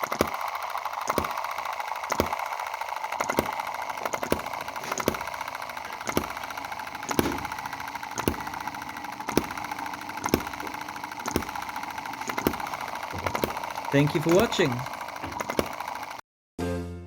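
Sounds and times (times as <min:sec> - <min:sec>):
hit-and-miss engine clatter: 0:00.0 - 0:16.2.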